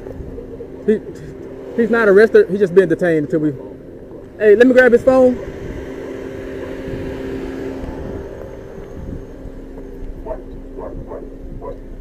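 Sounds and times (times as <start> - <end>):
car engine idling hum: 0.0 - 12.0.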